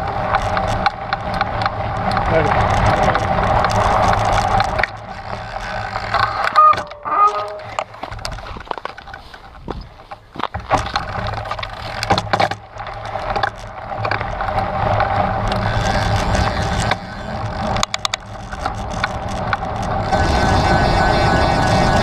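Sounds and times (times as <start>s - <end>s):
bike knocking and rattling: 0.0s - 22.0s
mountain bike rumbling over rocks: 0.0s - 22.0s.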